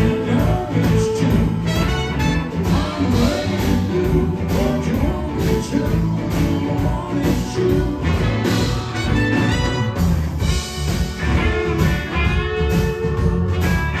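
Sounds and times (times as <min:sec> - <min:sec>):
blues-rock band playing: 0:00.0 - 0:14.0.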